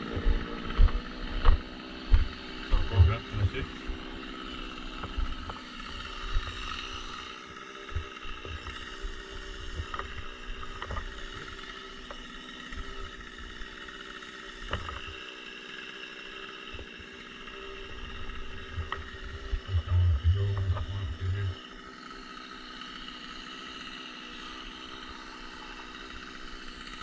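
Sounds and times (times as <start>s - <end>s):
engine droning steadily: 0.0s - 27.0s.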